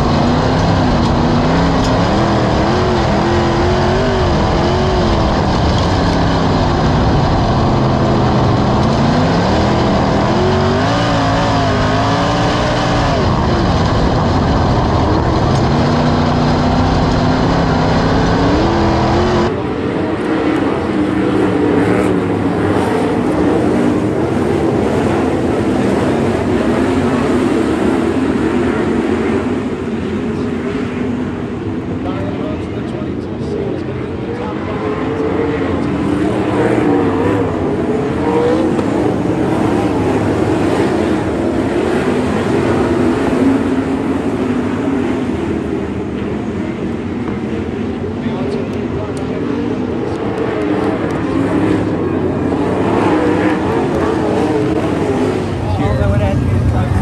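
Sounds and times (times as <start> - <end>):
distant race cars circling track: 0.0 - 57.0
race car engine revving: 0.0 - 57.0.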